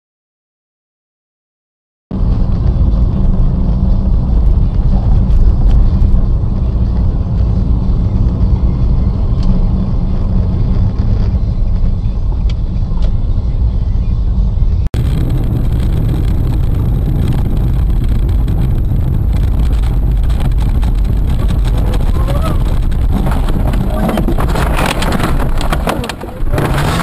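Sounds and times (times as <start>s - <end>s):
car engine and road noise: 2.1s - 27.0s.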